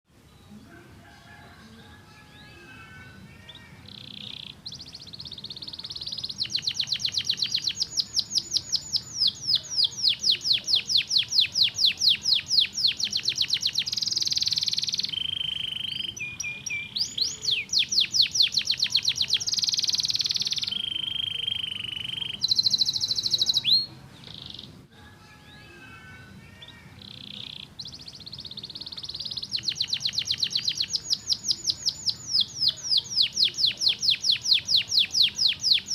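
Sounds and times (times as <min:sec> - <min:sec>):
canary singing trills: 0:00.2 - 0:35.9.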